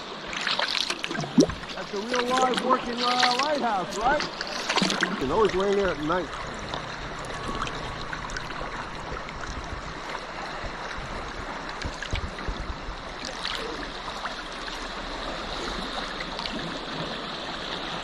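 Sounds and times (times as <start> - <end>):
water drips and splashes: 0.0 - 18.0
water lapping against kayak: 0.0 - 18.0.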